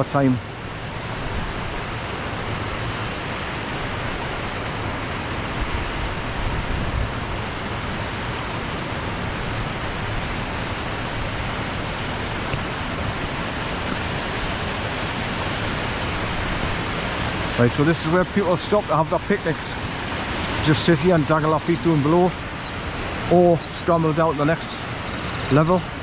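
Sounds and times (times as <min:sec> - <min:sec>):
waterfall splashing over rock: 0:00.0 - 0:26.0.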